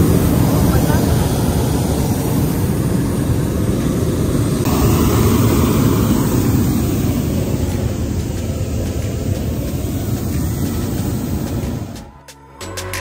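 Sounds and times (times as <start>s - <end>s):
propane burner firing: 0.0s - 12.2s.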